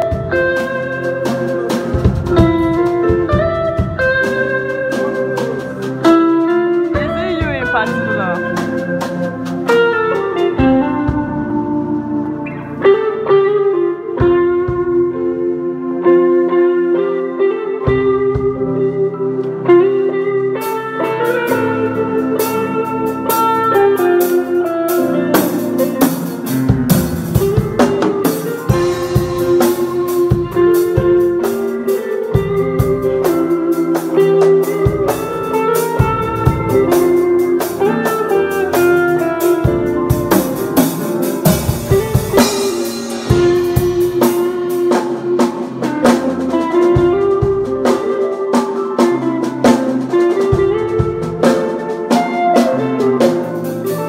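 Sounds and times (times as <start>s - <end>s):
drum kit: 0.0s - 54.0s
guitar playing: 0.0s - 54.0s.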